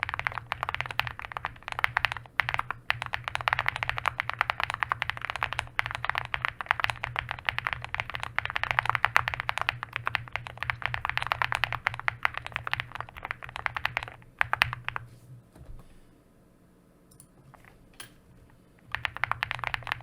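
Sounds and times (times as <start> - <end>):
mechanical keyboard typing: 0.0 - 15.1, 18.8 - 20.0.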